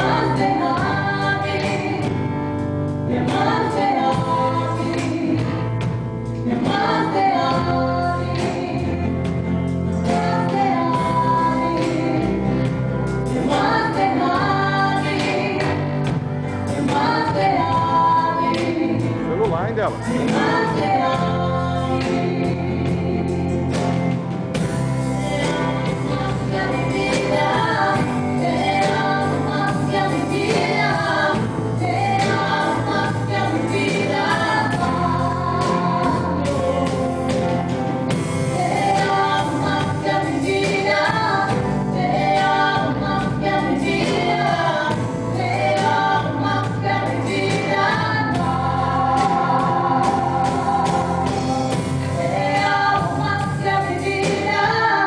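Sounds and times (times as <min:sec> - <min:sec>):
woman singing into microphone: 0:00.0 - 0:19.3, 0:19.9 - 0:55.0
live band guitars and drums: 0:00.0 - 0:55.0.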